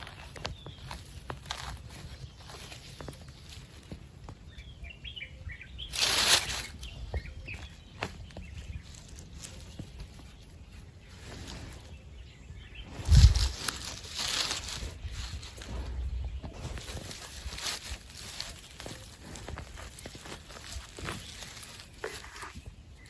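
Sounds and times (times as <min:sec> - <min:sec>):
hands rustling pine needles: 0:00.0 - 0:04.3, 0:05.8 - 0:12.1, 0:12.8 - 0:23.0
faint bird chirps: 0:00.0 - 0:23.0.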